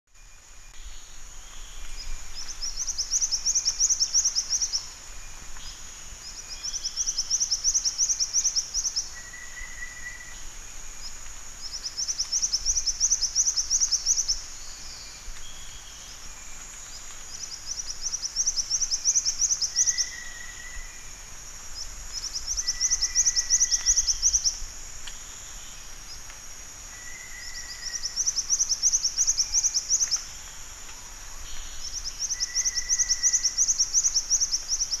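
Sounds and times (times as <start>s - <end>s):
high insect drone: 0.2s - 35.0s.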